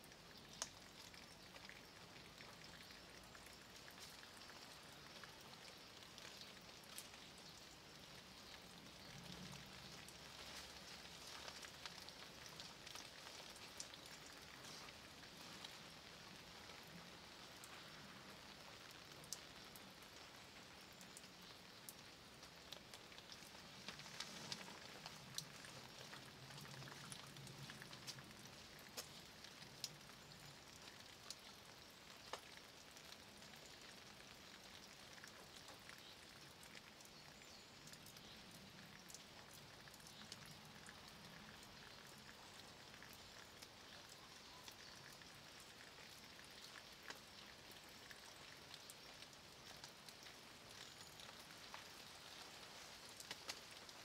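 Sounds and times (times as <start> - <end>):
rain on stones and leaves: 0.0 - 54.0.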